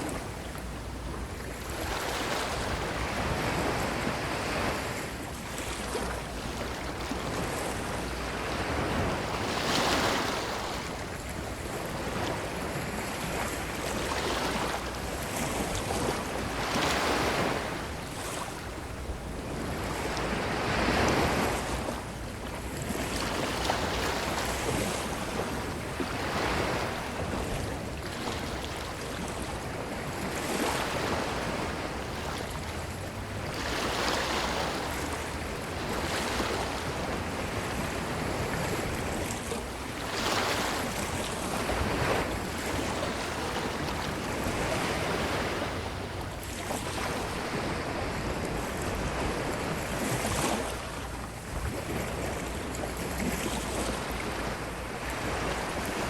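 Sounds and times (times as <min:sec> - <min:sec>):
ocean surf washing onto beach: 0:00.0 - 0:56.0.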